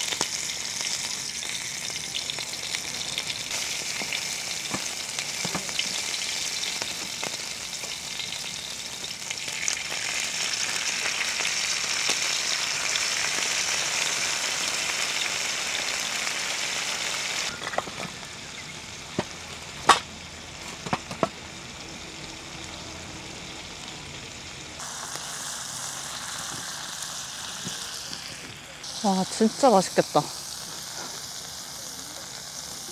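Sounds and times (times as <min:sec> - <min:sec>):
pork sizzling on griddle: 0:00.0 - 0:32.9.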